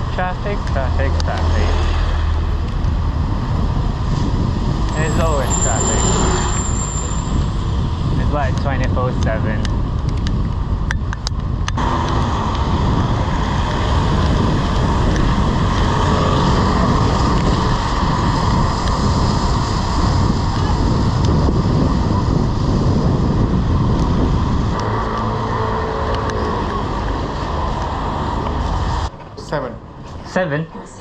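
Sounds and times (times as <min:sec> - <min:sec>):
traffic: 0:00.0 - 0:31.0
wind on microphone: 0:00.4 - 0:29.1.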